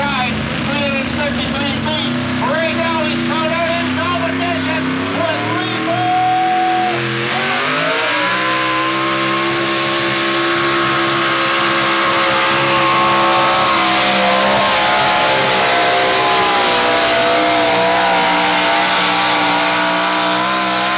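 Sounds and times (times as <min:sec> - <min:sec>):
truck engine revving under load: 0:00.0 - 0:20.9.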